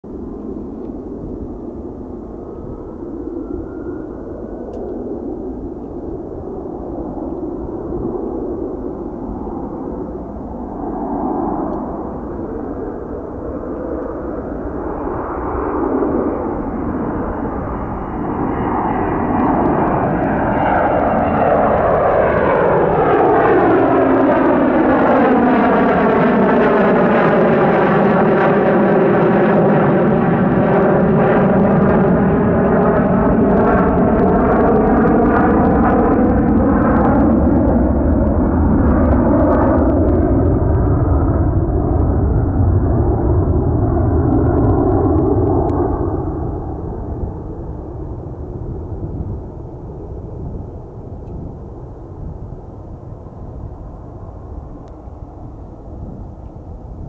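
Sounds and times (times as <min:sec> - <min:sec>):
jet engines roaring overhead: 0:00.0 - 0:57.0.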